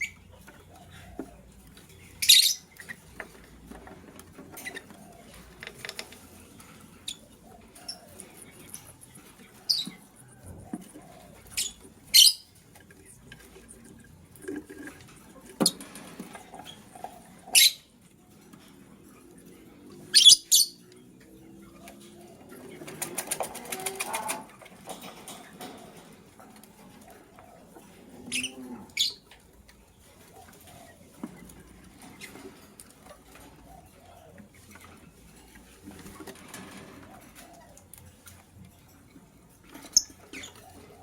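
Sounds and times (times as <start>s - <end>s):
lovebirds chirping: 0.0s - 14.3s, 15.0s - 24.6s, 27.0s - 41.0s
wings flapping and scrabbling: 0.0s - 18.0s, 21.6s - 41.0s.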